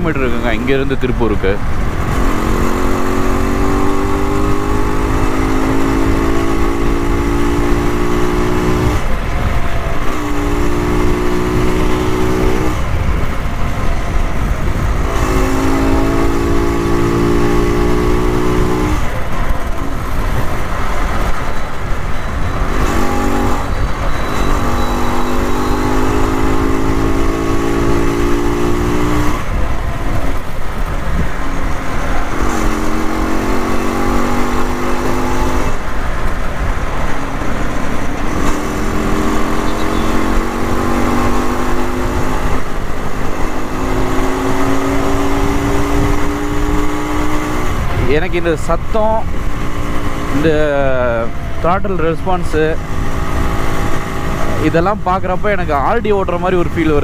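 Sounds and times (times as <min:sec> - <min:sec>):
motorcycle engine at road speed: 0:00.0 - 0:57.0
wind rush on microphone: 0:00.0 - 0:57.0.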